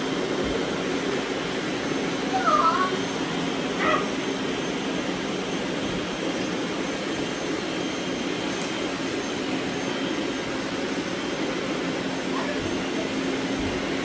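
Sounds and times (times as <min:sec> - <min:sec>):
robot vacuums running: 0:00.0 - 0:14.0.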